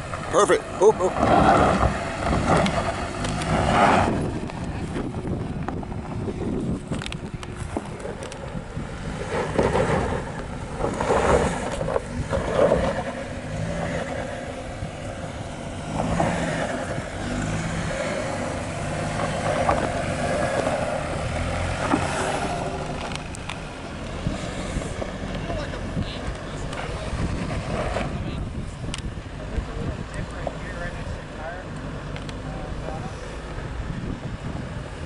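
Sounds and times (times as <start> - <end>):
suv engine under load: 0.0 - 35.0.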